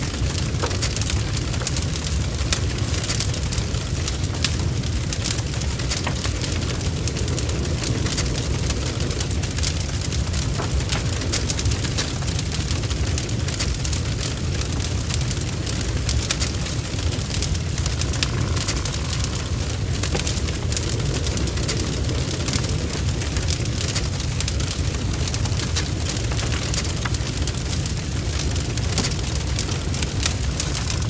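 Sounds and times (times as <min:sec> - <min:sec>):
fire crackling and spitting: 0:00.0 - 0:31.0
low rumble of fire: 0:00.0 - 0:31.0.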